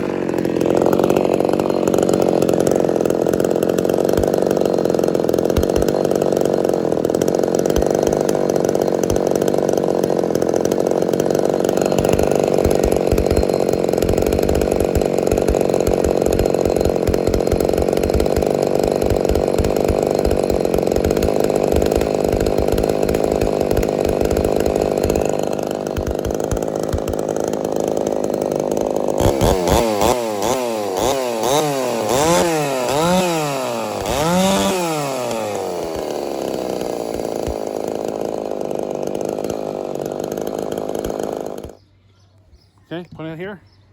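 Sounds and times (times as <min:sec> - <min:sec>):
chainsaw revving: 0:00.0 - 0:41.9.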